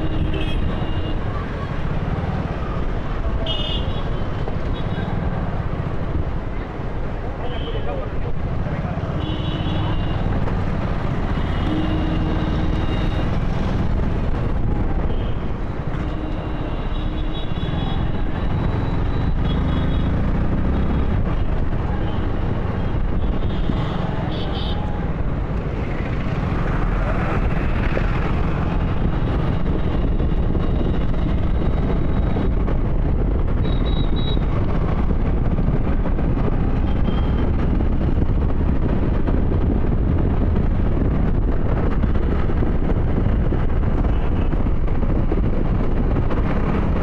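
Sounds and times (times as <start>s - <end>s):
motorcycle engine and road noise: 0.0s - 47.0s
wind rumble on microphone: 8.0s - 47.0s.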